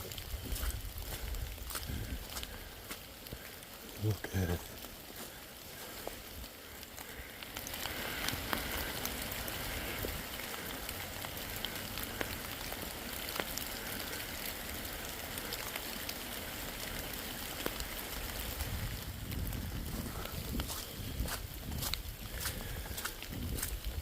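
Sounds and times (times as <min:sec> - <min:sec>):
raindrops ticking close by: 0:00.0 - 0:24.0
steady rain in forest: 0:00.0 - 0:24.0.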